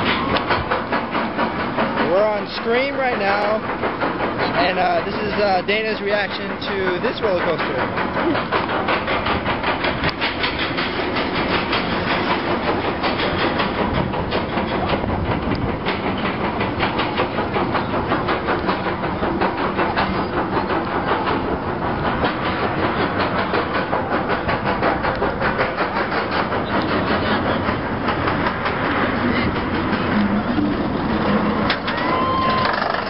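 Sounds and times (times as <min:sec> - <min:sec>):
roller coaster lift chain clacking: 0:00.0 - 0:33.0.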